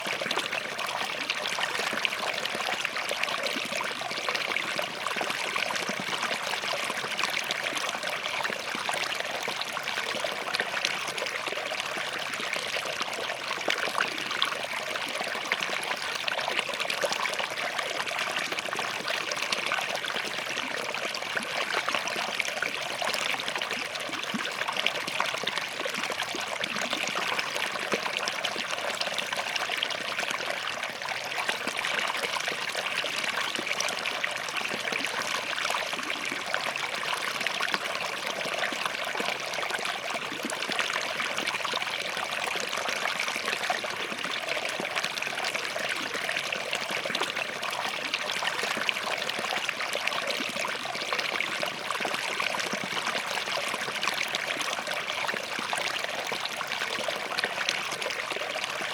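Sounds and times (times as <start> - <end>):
stream trickling over rocks: 0.0 - 58.9.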